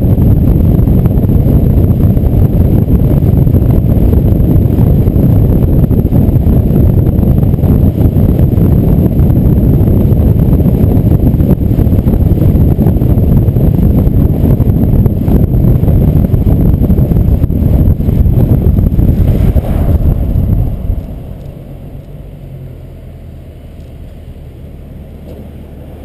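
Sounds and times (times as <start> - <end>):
wind buffeting microphone: 0.0 - 25.2
road rumble: 0.0 - 26.0.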